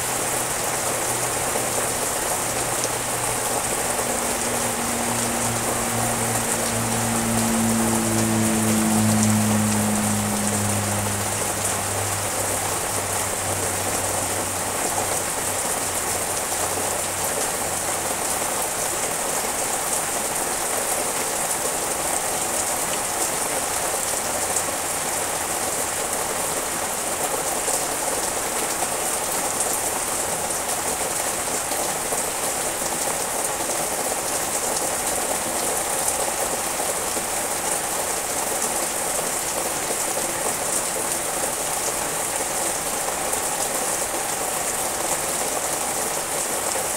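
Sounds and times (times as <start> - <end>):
heavy rain on leaves: 0.0 - 46.9.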